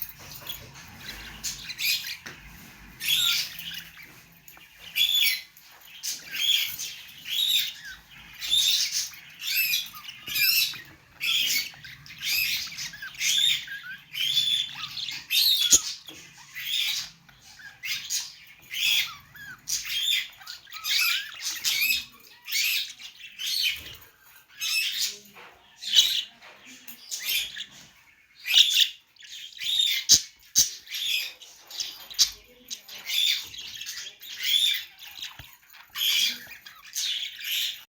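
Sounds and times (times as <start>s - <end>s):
budgerigars chirping: 0.0s - 37.9s.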